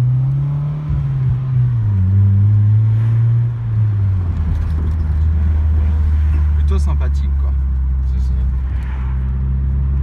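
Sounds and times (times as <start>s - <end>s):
car engine from inside cabin: 0.0s - 10.0s.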